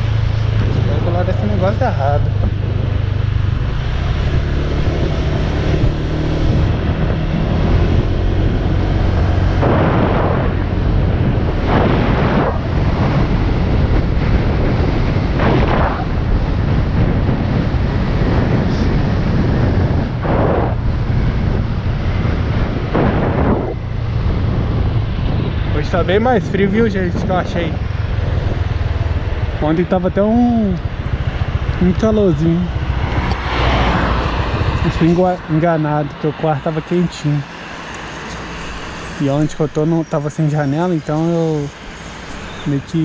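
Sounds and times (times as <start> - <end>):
rushing noise: 0.0 - 43.0
scooter engine drone: 0.0 - 43.0
wind buffeting microphone: 0.0 - 43.0.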